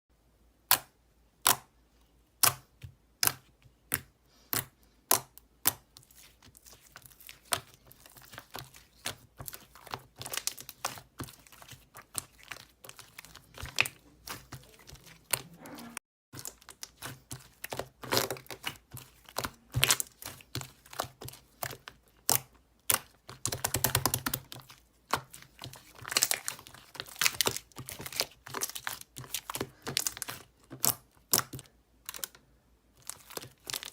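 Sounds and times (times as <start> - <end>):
crinkling and crackling: 6.1 - 32.4, 33.0 - 33.9.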